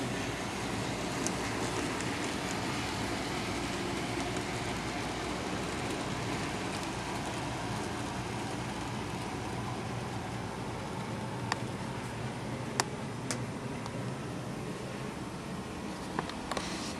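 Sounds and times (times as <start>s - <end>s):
model train whirring on rails: 0.0s - 16.9s.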